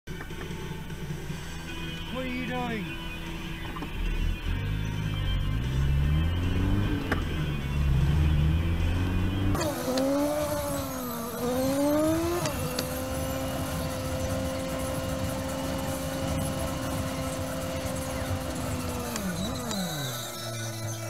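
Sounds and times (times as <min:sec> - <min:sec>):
car engine: 0:00.1 - 0:21.0.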